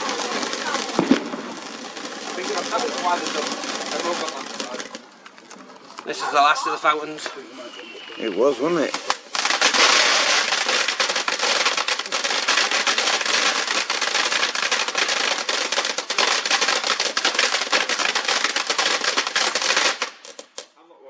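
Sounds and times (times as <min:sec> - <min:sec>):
firework crackling hiss: 0:00.0 - 0:05.3, 0:06.1 - 0:20.6.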